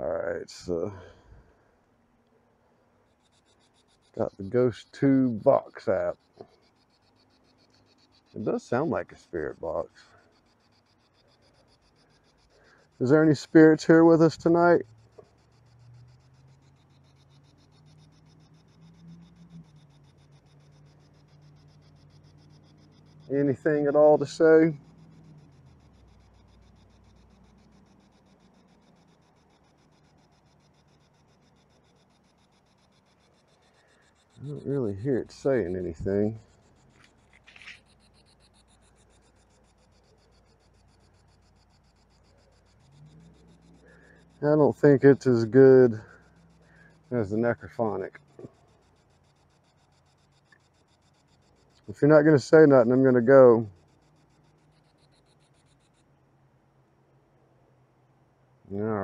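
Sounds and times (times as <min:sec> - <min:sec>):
fluttering hum from phone speaker: 0:00.0 - 0:59.0
rapid high-pitched pulsing: 0:03.0 - 0:56.2.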